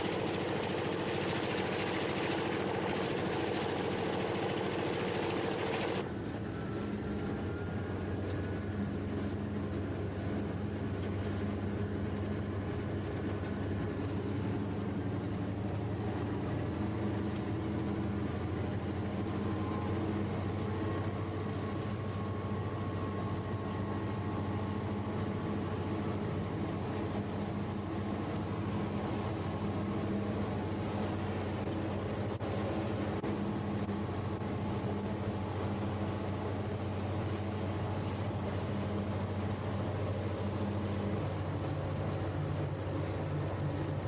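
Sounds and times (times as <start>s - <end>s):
faint high whine: 0.0s - 44.0s
locomotive engine low drone: 0.0s - 44.0s.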